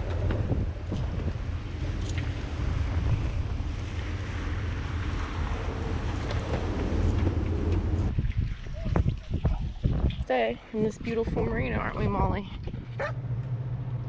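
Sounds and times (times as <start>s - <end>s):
rush of wind and sea: 0.0s - 14.0s
wind buffeting microphone: 0.0s - 14.0s.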